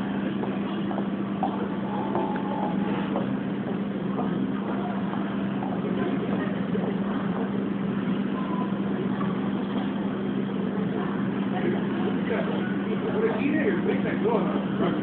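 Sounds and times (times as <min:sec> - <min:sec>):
constant hum: 0:00.0 - 0:15.0
faint voices: 0:00.0 - 0:15.0.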